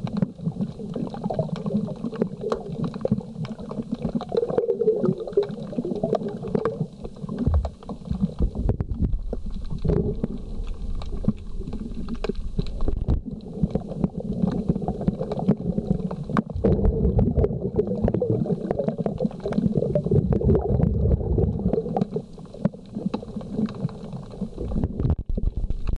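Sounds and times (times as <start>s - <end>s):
muffled underwater rumbling: 0.0s - 26.0s.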